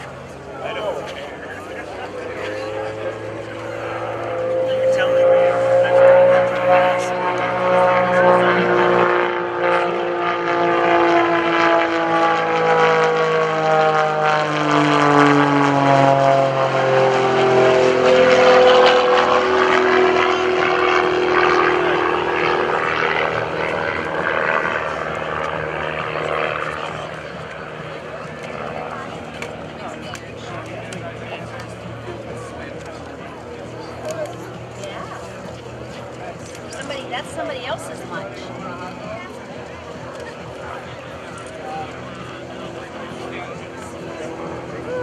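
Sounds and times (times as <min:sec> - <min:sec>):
propeller plane engine droning: 0:00.0 - 0:45.0.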